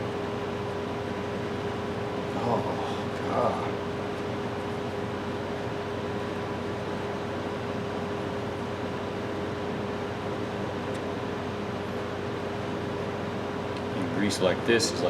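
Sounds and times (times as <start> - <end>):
electric machine humming: 0.0 - 15.0.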